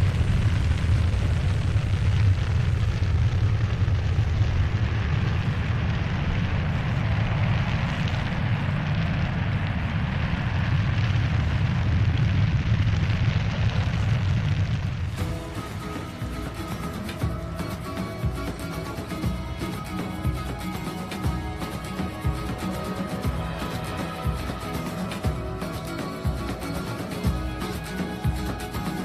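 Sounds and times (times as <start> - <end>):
rocket engines rumbling: 0.0 - 29.0.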